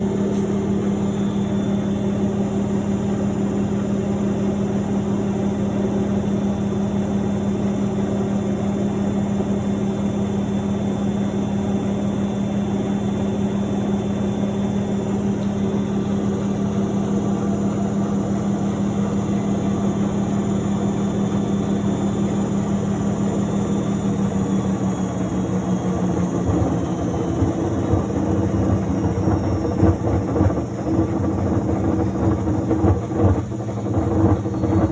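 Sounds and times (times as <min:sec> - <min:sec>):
washing machine running: 0:00.0 - 0:34.9.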